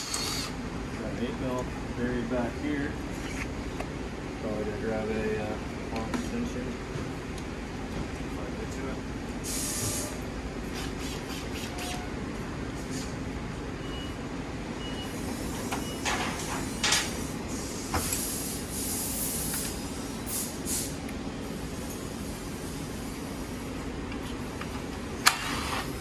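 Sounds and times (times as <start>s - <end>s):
low shop hum: 0.0s - 26.0s.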